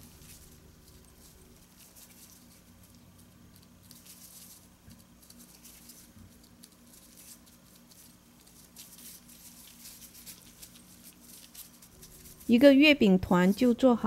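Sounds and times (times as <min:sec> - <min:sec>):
low steady hum: 0:00.0 - 0:14.0
plastic gloves crinkling: 0:00.0 - 0:14.0.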